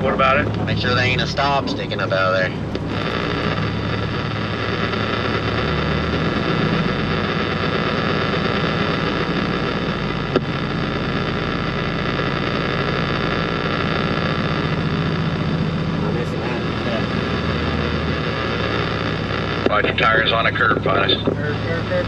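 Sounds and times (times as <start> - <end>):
road and cab noise: 0.0 - 22.0
vehicle engine hum: 0.0 - 22.0.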